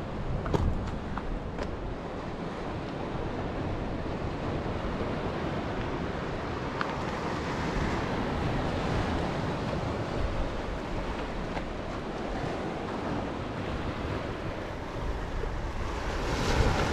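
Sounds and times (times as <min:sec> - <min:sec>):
wind rumbling on microphone: 0:00.0 - 0:16.9
waves breaking on rocky shore: 0:00.1 - 0:16.9.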